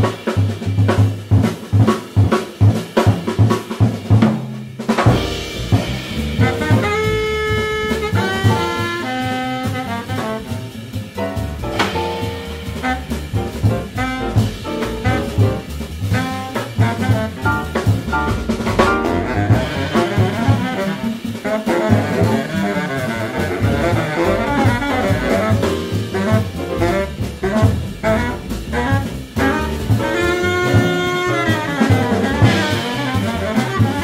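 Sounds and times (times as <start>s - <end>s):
drum kit: 0.0s - 34.0s
piano: 0.0s - 34.0s
baritone saxophone: 5.1s - 34.0s
walking upright bass: 5.1s - 34.0s.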